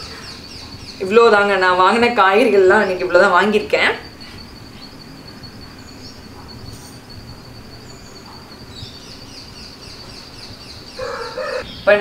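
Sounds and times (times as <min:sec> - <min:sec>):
high-pitched insect drone: 0:00.0 - 0:11.8
falling chirps: 0:00.0 - 0:11.9
birds chirping: 0:00.0 - 0:12.0.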